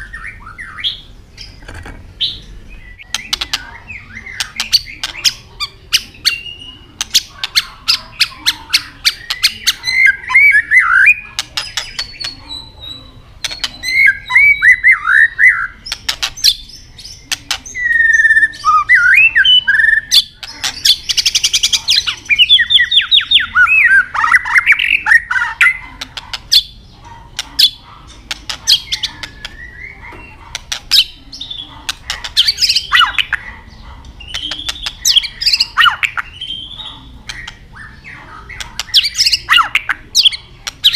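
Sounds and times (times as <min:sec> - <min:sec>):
bird warbled whistled song: 0:00.0 - 0:01.6, 0:02.2 - 0:25.8, 0:27.6 - 0:40.9
bird clicking calls: 0:03.0 - 0:12.6, 0:13.4 - 0:15.0, 0:15.8 - 0:16.6, 0:17.2 - 0:19.1, 0:19.8 - 0:40.9.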